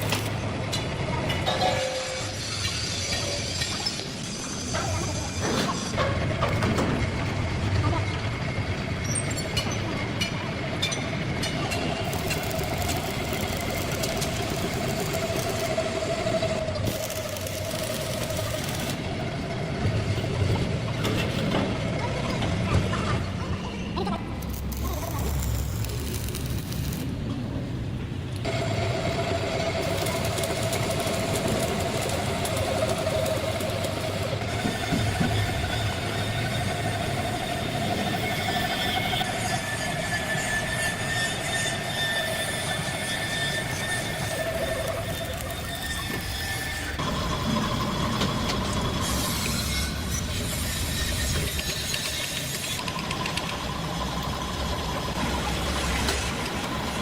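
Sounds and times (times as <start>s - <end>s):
workshop machine whine: 0.0s - 57.0s
rough mechanical noise: 2.0s - 21.8s, 24.2s - 57.0s.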